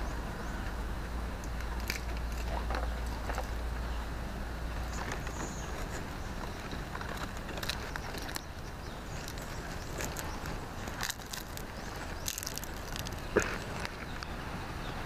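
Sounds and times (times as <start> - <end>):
palm leaves rustling and crackling: 0.0 - 14.7
steady low rumble: 0.0 - 15.0.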